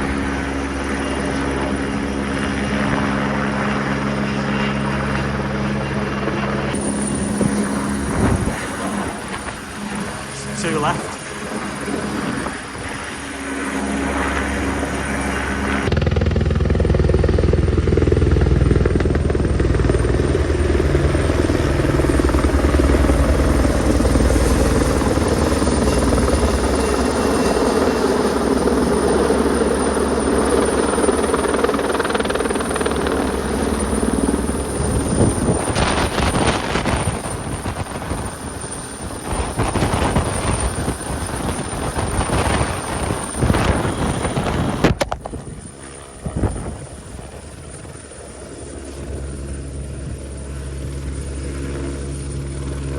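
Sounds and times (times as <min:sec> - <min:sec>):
helicopter rotor and turbines: 0:00.0 - 0:52.9.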